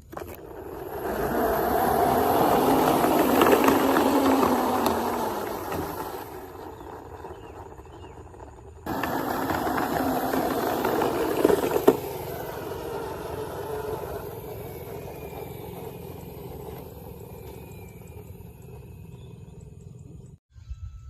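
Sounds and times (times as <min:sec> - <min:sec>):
motor running: 0:00.0 - 0:20.4.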